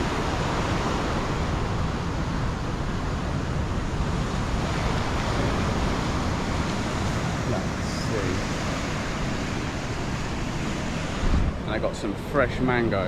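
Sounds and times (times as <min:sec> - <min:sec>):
sea surf: 0:00.0 - 0:13.0
wind rumbling on microphone: 0:00.0 - 0:13.0.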